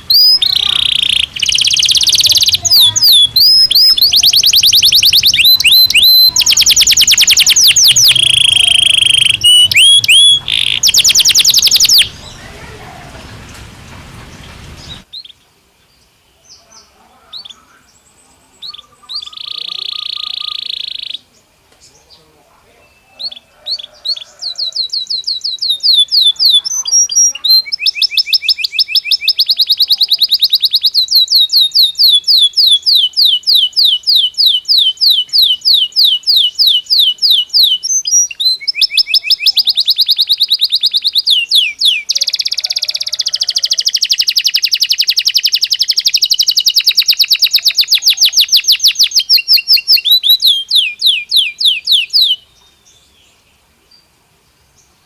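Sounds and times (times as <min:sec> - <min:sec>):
canary singing trills: 0:00.0 - 0:13.5, 0:16.3 - 0:54.1.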